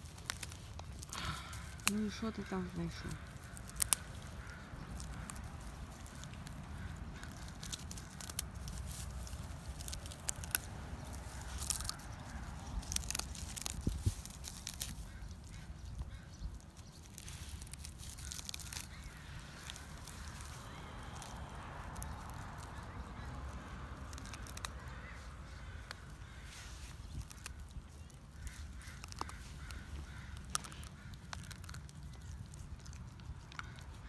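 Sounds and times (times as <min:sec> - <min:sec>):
dog gnawing crunchy food: 0:00.0 - 0:34.0.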